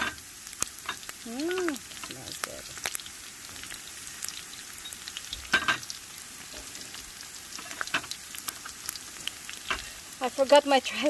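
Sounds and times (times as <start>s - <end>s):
garlic sizzling in fat: 0.0s - 11.0s.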